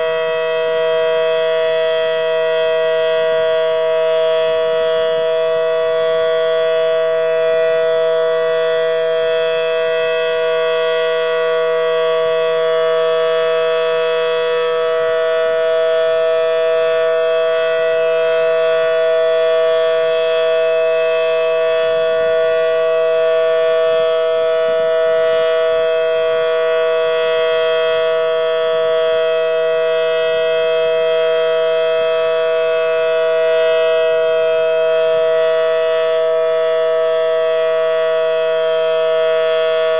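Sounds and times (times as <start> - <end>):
warning siren two-note chord: 0.0 - 39.9.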